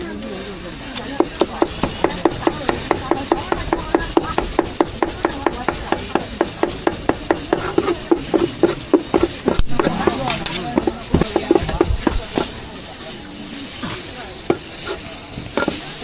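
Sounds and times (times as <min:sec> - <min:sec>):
cleaver chopping meat on wood: 0:01.2 - 0:12.6, 0:14.5 - 0:16.0.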